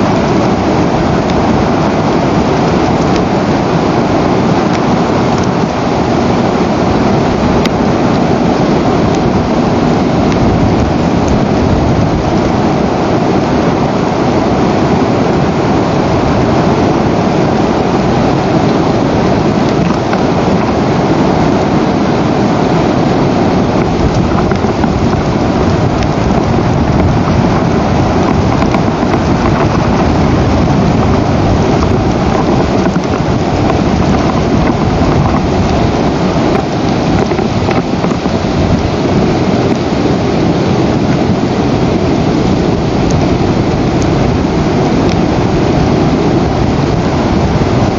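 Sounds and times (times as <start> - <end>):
rain on a microphone: 0.0 - 47.9.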